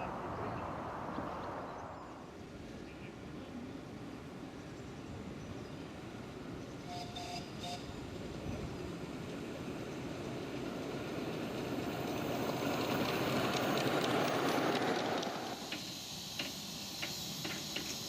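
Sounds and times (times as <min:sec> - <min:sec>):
miniature train rumble and wheel clatter: 0:02.8 - 0:18.0.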